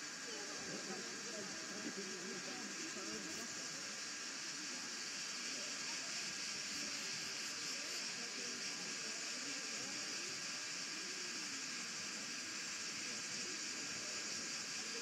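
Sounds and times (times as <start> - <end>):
faint indistinct voices: 0.0 - 15.0
steady high hiss: 0.0 - 15.0.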